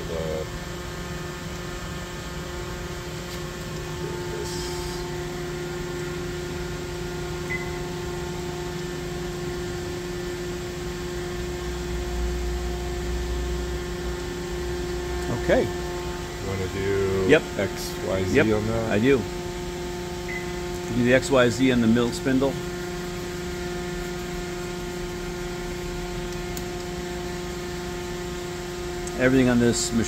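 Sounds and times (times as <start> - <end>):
machine humming and whining: 0.0 - 30.0.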